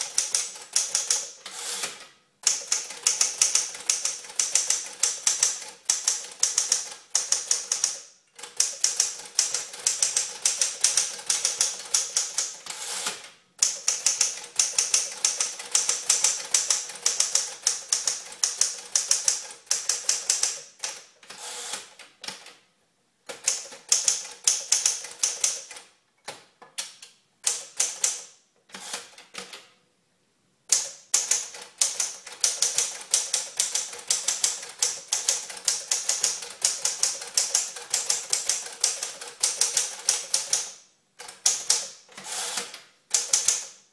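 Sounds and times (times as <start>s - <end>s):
manual typewriter typing: 0.0s - 22.5s, 23.3s - 25.9s, 26.8s - 29.6s, 30.7s - 43.8s.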